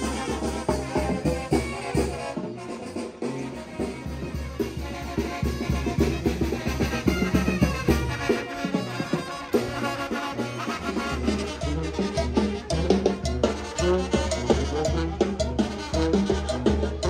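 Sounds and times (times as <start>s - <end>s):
brass band music: 0.0s - 17.0s
drums with bass beat: 0.0s - 17.0s.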